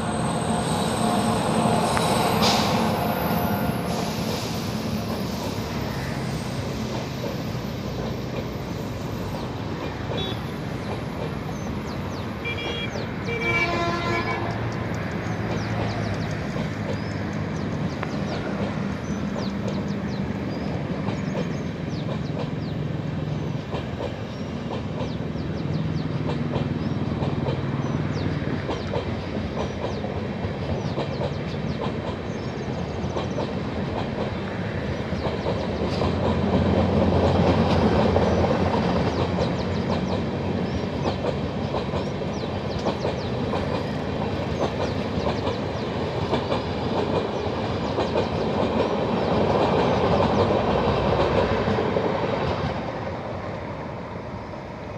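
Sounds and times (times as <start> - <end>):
train wheels clattering: 0.0 - 12.4, 13.8 - 52.8
train rumble: 0.0 - 54.9.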